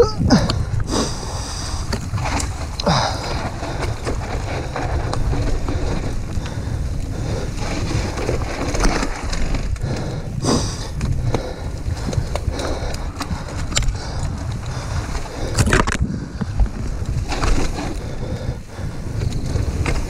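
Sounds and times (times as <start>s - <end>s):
bike rattling over bumps: 0.0s - 20.0s
bike tyres on dirt: 0.0s - 20.0s
wind rumbling on microphone: 0.0s - 20.0s.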